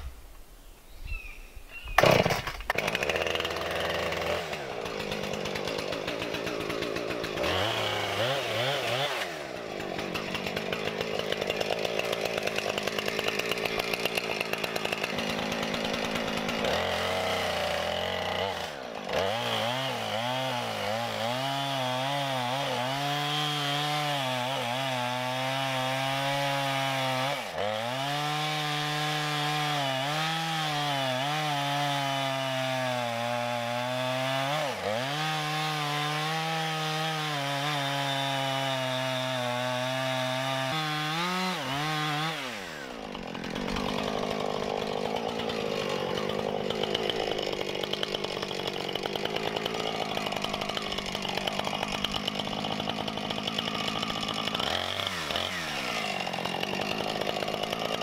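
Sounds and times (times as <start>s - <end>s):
chainsaw cutting wood: 1.7s - 58.0s
chainsaw idling roughly: 2.0s - 58.0s.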